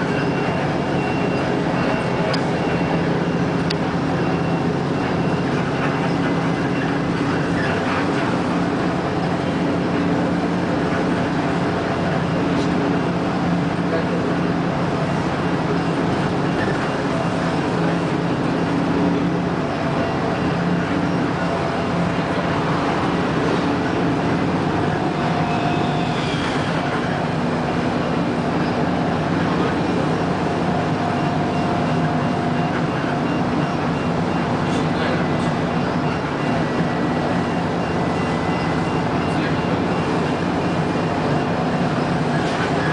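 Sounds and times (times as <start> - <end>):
large vehicle running noise: 0.0 - 42.9.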